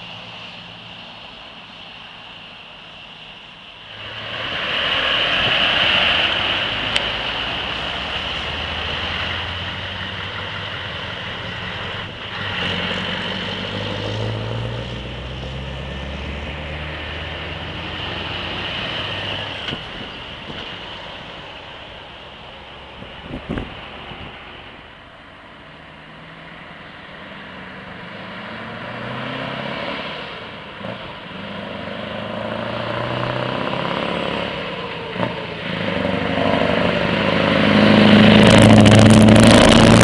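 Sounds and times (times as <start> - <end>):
diesel truck accelerating: 0.0 - 40.0.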